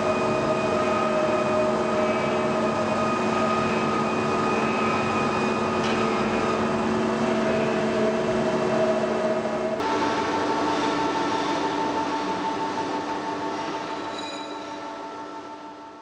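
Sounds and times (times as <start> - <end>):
machine hum with whining tones: 0.0 - 16.0.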